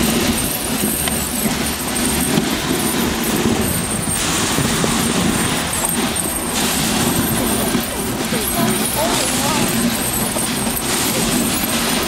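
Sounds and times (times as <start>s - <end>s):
sled runners scraping over ice: 0.0s - 12.0s.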